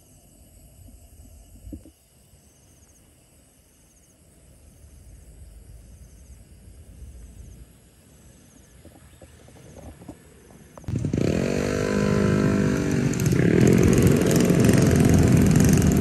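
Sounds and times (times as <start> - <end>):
faint insect chirps: 0.0 - 13.6.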